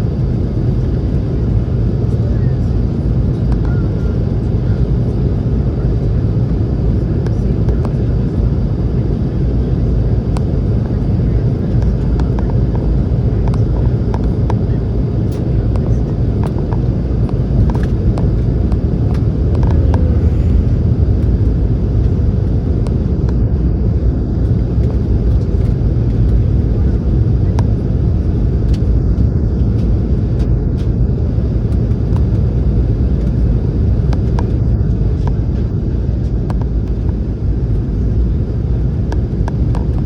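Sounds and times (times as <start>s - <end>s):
airplane cabin roar: 0.0s - 40.0s.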